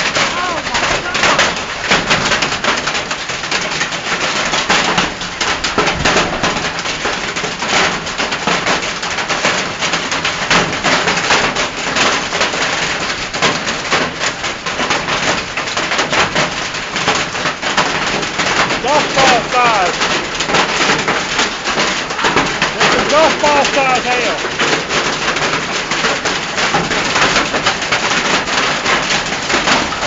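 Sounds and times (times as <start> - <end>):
hailstones clattering: 0.0 - 30.0.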